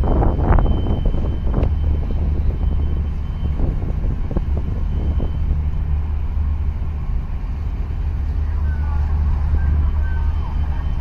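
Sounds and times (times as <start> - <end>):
boat diesel engines droning: 0.0 - 11.0
wind on microphone: 0.0 - 11.0.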